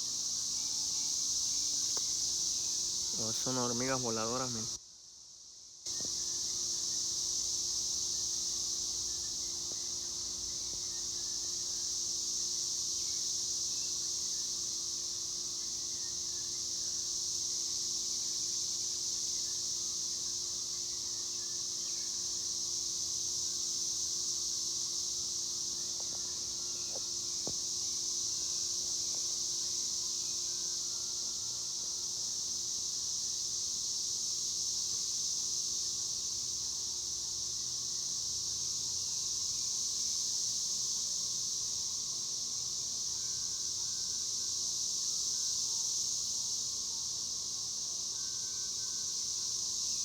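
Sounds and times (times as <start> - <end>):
cicadas buzzing: 0.0 - 50.0.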